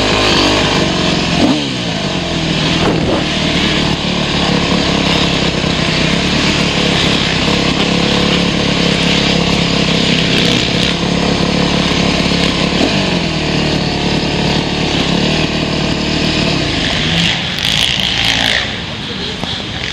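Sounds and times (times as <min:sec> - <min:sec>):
motocross motorcycle engine: 0:00.0 - 0:19.9.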